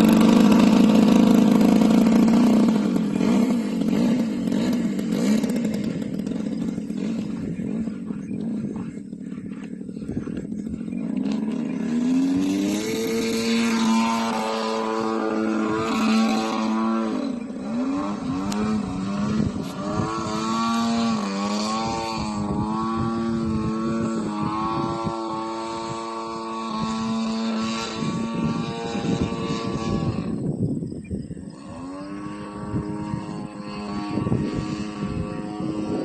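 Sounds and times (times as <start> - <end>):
model aircraft gas engine running: 0.0 - 36.0.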